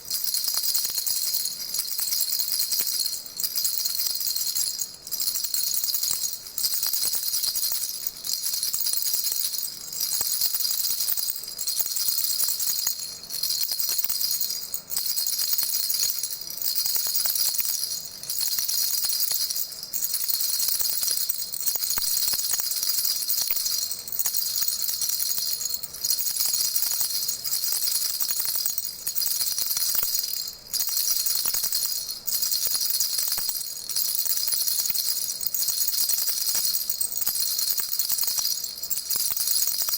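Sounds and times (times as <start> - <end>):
baby rattle jingling: 0.0 - 39.9.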